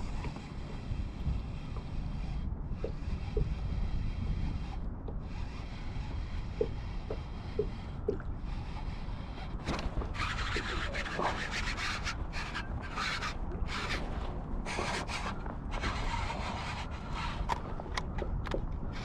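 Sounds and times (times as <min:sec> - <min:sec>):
rubbing and scraping: 0:00.0 - 0:19.0
steady low rumble: 0:00.0 - 0:19.0.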